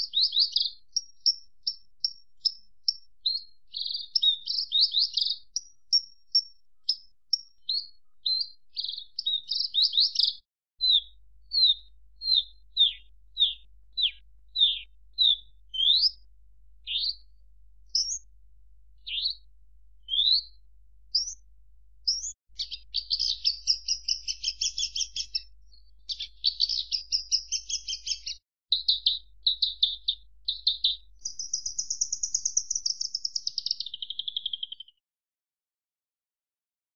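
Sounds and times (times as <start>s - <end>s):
lark singing: 0.0s - 18.3s, 19.0s - 21.4s, 22.0s - 35.0s.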